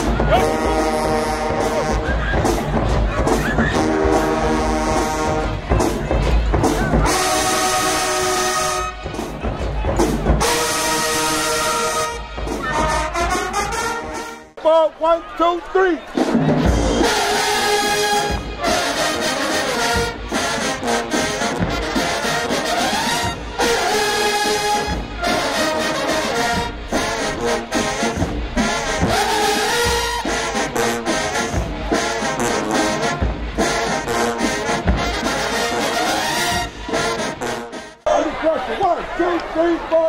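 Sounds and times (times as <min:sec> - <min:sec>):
marching band playing: 0:00.0 - 0:40.0.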